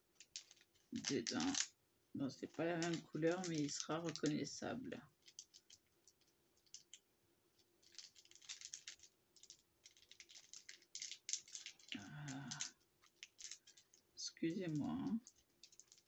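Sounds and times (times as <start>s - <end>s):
small hard pieces clicking and rattling: 0.2s - 1.7s, 2.5s - 4.4s, 5.2s - 7.0s, 7.8s - 16.0s.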